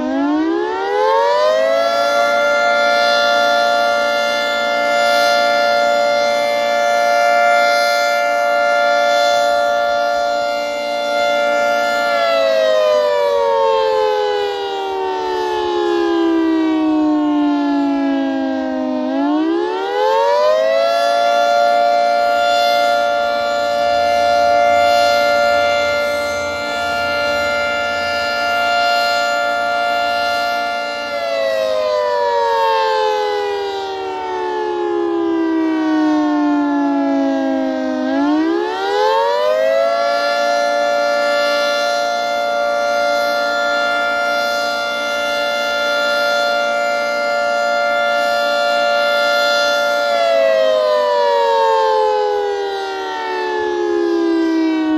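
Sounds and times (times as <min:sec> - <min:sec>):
three-tone siren: 0:00.0 - 0:54.9.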